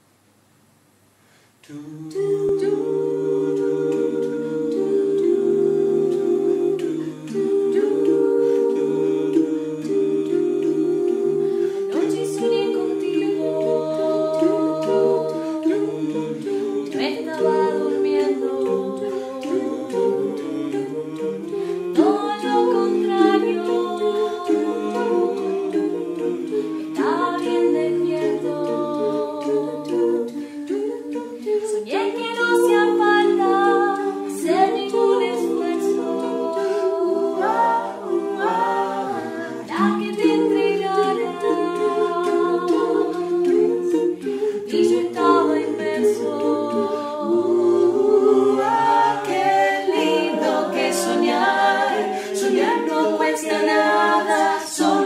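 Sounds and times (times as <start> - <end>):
vocal group humming close harmony: 1.6 - 55.0.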